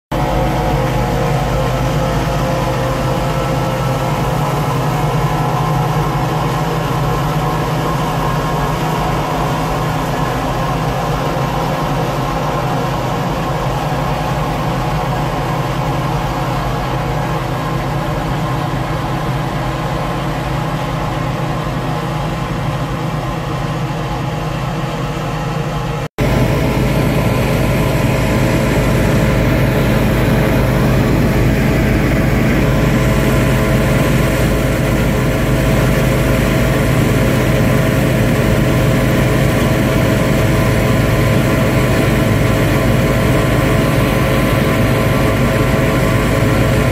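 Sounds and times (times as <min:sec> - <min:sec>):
combine harvester engine drone: 0:00.1 - 0:46.9.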